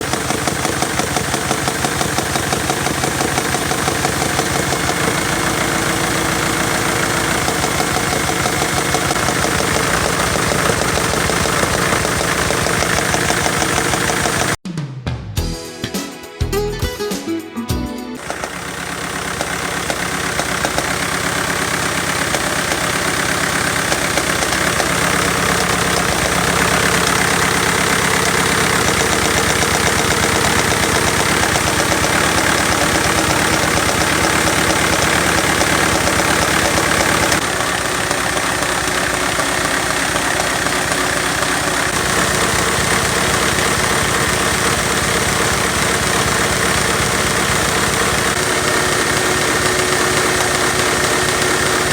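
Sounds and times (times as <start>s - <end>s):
engine knock: 0.0s - 14.6s, 18.2s - 51.9s
toy engine clattering: 0.0s - 14.6s, 18.2s - 51.9s.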